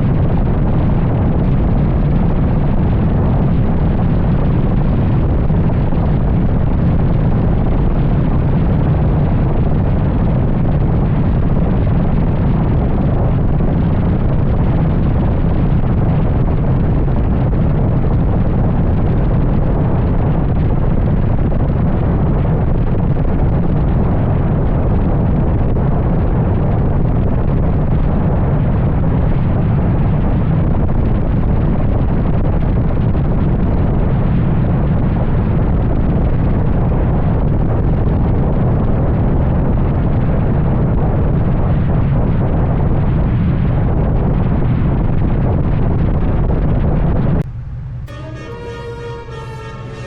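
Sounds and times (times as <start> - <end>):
wind buffeting microphone: 0.0 - 48.2
deep car exhaust drone: 0.0 - 50.0.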